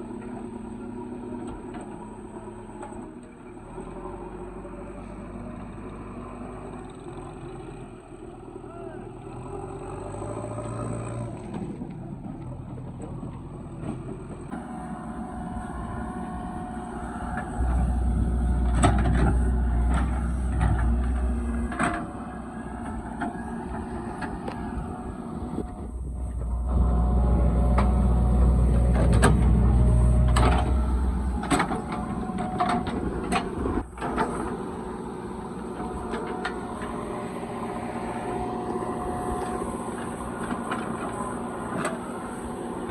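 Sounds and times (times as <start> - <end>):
diesel engine working under load: 0.0 - 42.9.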